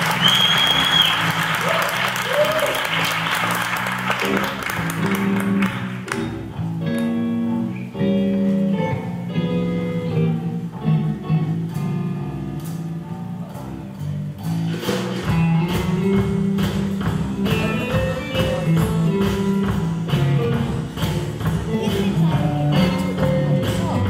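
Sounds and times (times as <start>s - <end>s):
electric guitar: 0.0s - 24.0s
live rock band playing: 0.0s - 24.0s.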